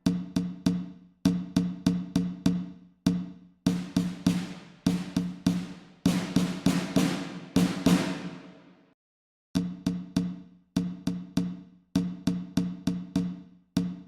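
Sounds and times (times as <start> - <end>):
percussion music: 0.0 - 8.7, 9.6 - 14.0.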